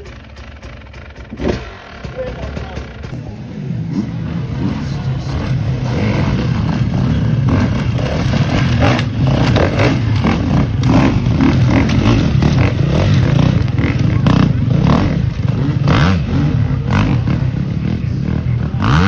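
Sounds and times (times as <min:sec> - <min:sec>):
clatter: 0:00.0 - 0:03.2, 0:04.2 - 0:19.0
dirt bike engine revving: 0:00.0 - 0:19.0.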